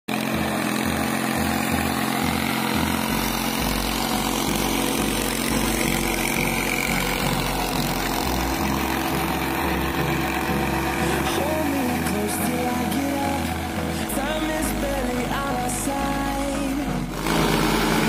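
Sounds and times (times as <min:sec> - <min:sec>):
tractor diesel engine running: 0:00.1 - 0:18.0.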